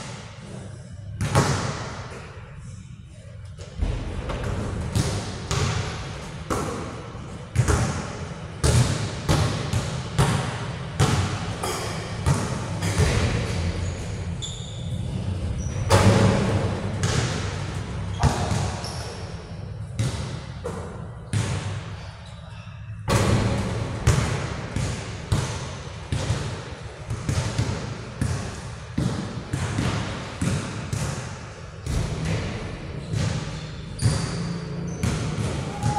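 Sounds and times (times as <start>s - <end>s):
basketballs bouncing on court: 1.2s - 2.1s, 3.7s - 22.1s, 23.1s - 35.9s.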